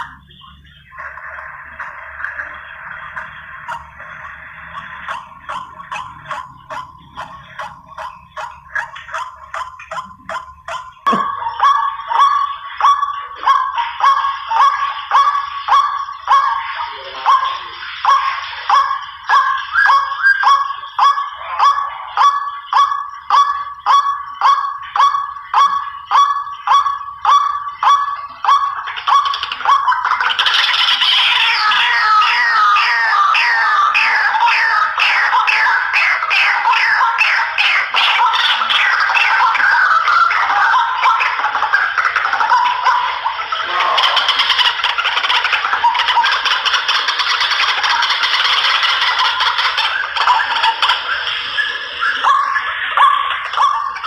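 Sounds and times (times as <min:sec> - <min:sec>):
waterhen calls: 0:00.8 - 0:54.0.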